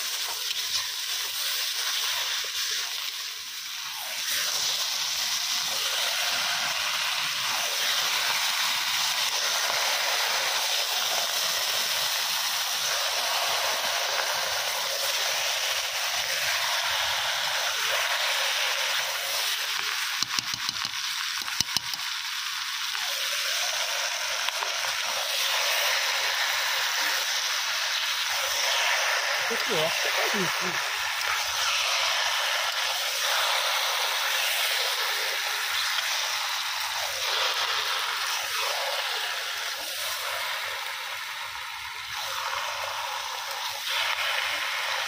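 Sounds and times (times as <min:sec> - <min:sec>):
meat sizzling in a pot: 0:00.0 - 0:45.0.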